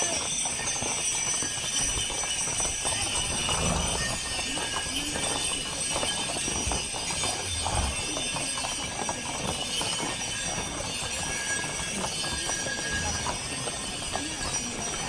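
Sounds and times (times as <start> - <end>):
hooves clip-clopping on asphalt: 0.0 - 15.0.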